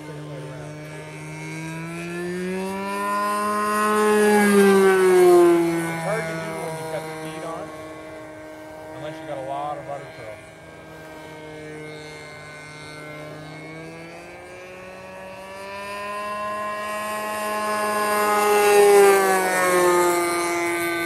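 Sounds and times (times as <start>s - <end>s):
model plane motor droning: 0.0s - 21.0s.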